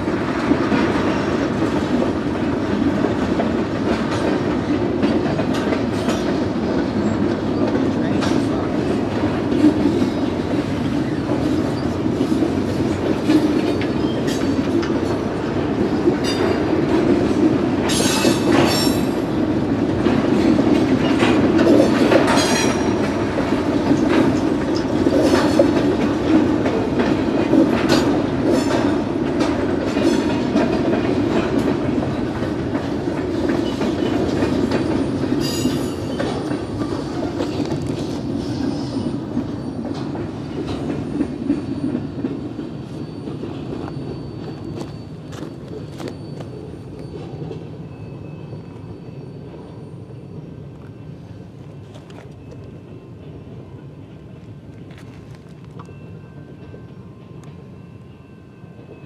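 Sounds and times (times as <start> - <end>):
wheels clacking over rail joints: 0.0 - 49.6
freight train rumbling: 0.0 - 59.0.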